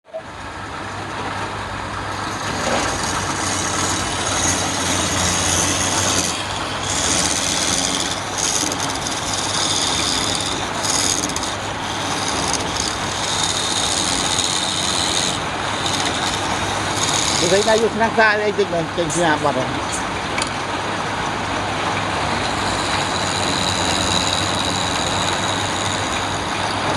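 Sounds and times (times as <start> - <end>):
wood lathe motor hum: 2.0 - 19.2, 22.0 - 26.9.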